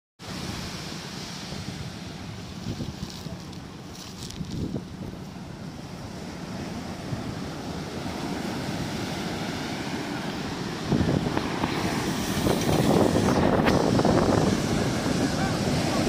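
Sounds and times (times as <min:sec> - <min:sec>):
rushing sea water: 0:00.2 - 0:16.0
wind buffeting the microphone: 0:01.5 - 0:16.0.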